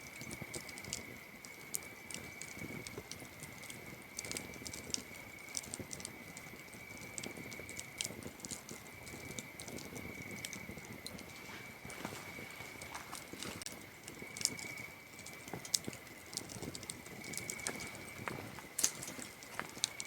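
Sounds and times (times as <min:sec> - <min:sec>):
campfire crackling and popping: 0:00.0 - 0:20.0
cricket trill: 0:00.0 - 0:20.0.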